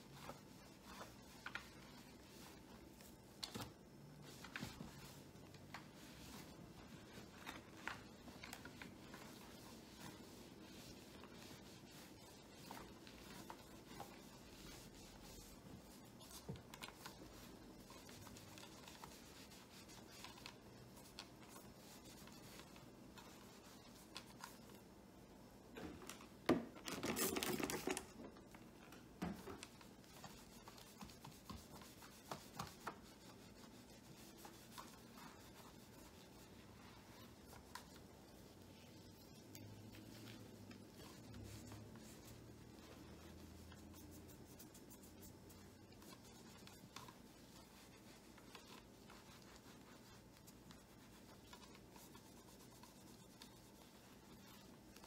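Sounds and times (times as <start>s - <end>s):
cloth rubbing on plastic: 0.0s - 25.0s, 29.3s - 55.0s.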